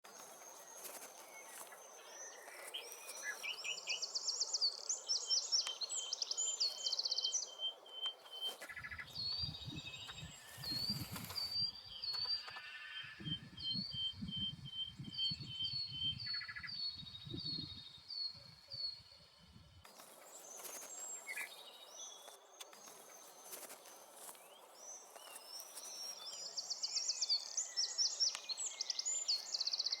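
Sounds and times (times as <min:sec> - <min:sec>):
songbirds singing and calling: 0:00.0 - 0:30.0.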